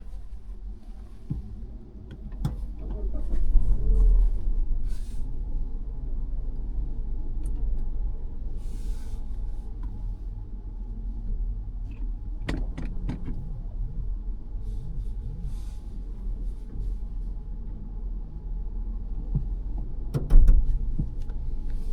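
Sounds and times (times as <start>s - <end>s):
engine and tyre rumble in car: 0.0s - 21.9s.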